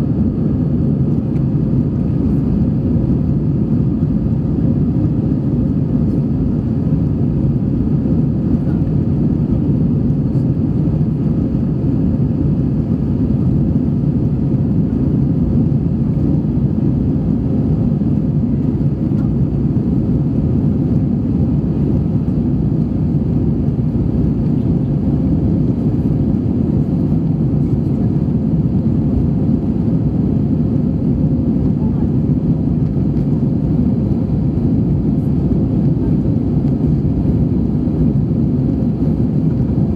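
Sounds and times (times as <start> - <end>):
airflow in airliner cabin: 0.0 - 39.9
jet engines roaring: 0.0 - 39.9.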